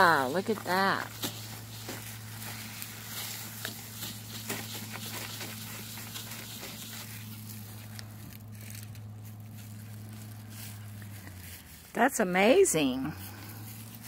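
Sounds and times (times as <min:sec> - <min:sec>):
short crackles: 0:00.0 - 0:12.1
paper towel crinkling and rubbing: 0:00.0 - 0:14.0
steady low hum: 0:00.0 - 0:14.0.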